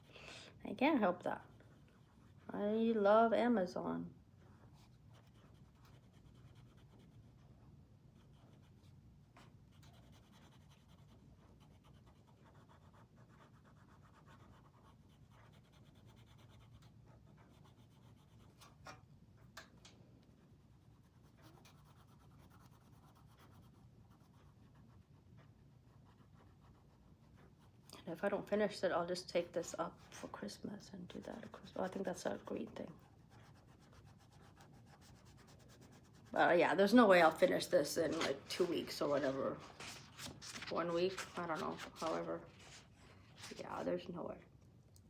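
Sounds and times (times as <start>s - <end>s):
low room hum: 0.0s - 45.0s
colouring on paper scratching: 1.0s - 3.0s, 4.4s - 19.0s, 20.6s - 44.1s.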